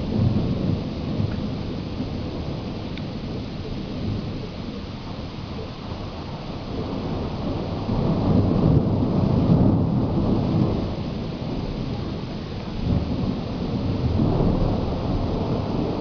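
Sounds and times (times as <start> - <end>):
heavy rain hiss: 0.0 - 16.0
thunder rumbling: 0.0 - 16.0.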